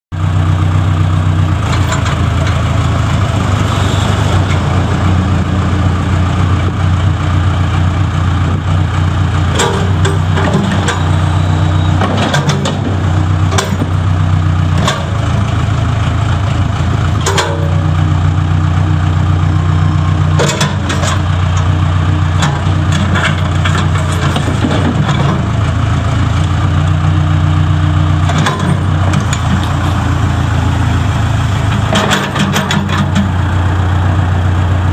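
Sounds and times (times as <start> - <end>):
diesel engine running steadily: 0.1 - 34.9.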